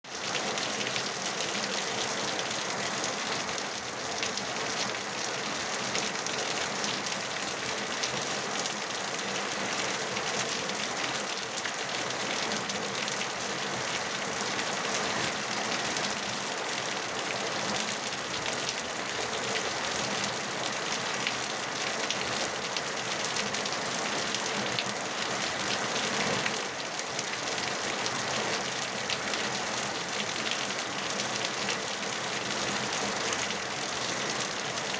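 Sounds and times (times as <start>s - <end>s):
steady rainfall: 0.0s - 34.9s.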